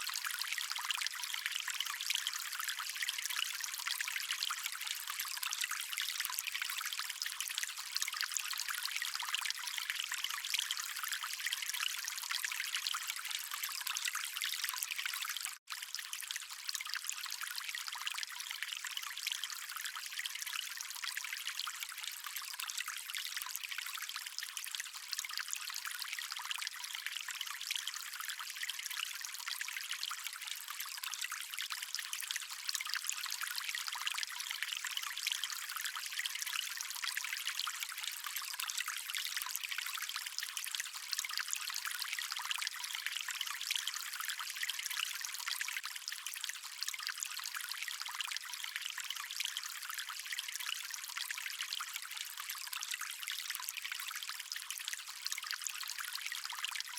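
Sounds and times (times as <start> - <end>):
stream water trickling: 0.0 - 56.9.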